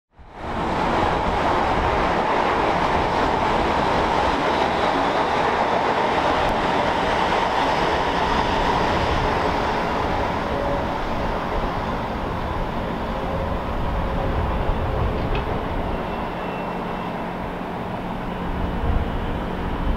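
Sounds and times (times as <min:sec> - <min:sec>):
passenger train rushing past: 0:00.2 - 0:19.9.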